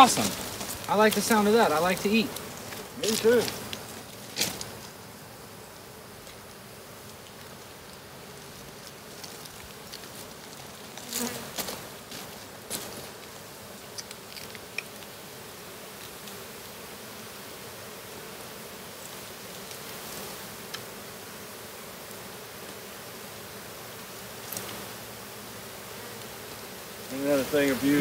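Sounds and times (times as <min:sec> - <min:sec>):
clicks and rustles of hives: 0:00.0 - 0:17.0, 0:18.1 - 0:28.0
honeybees buzzing: 0:00.0 - 0:28.0.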